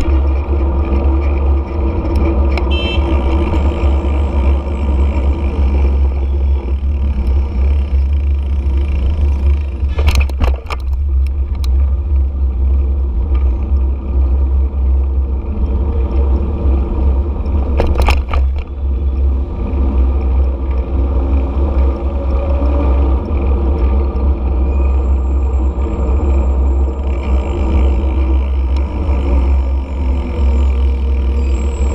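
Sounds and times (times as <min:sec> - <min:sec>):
traffic noise: 0:00.0 - 0:31.9
vehicle road noise rumble: 0:00.0 - 0:31.9.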